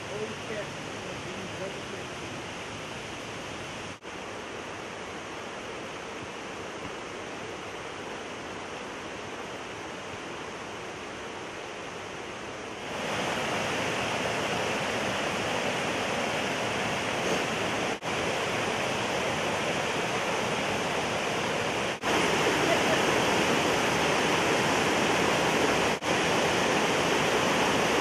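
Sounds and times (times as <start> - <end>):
creek cascading over rocks: 0.0 - 28.0.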